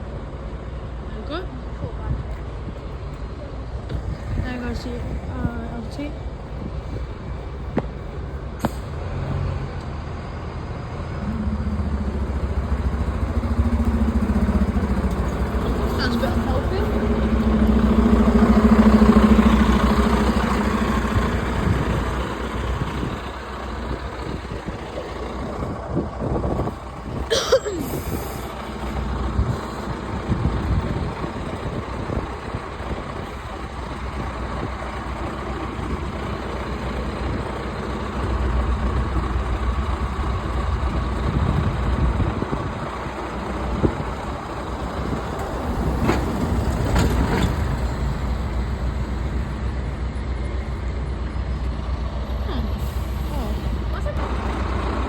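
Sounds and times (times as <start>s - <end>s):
bus engine: 0.0s - 55.0s
road traffic: 0.0s - 55.0s.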